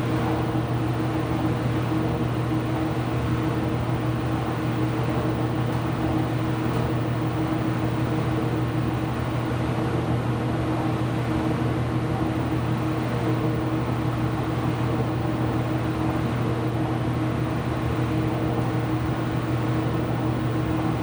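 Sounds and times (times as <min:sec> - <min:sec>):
washing machine humming: 0:00.0 - 0:09.4, 0:12.3 - 0:21.0.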